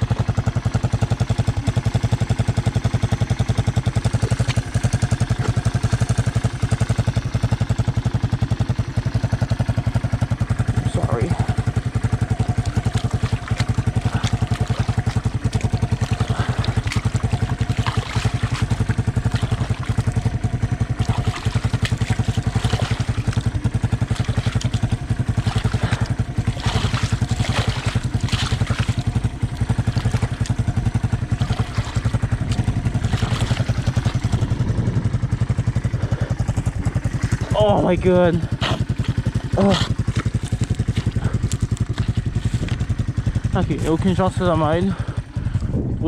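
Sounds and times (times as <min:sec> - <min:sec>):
engine running steadily: 0:00.0 - 0:46.0.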